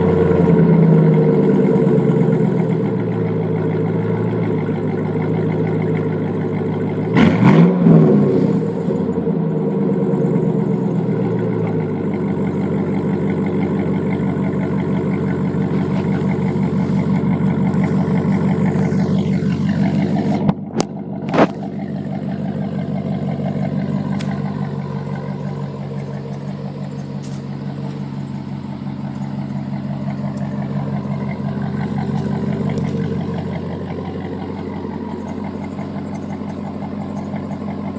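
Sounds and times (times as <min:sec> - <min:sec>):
truck engine revving and running: 0:00.0 - 0:37.9.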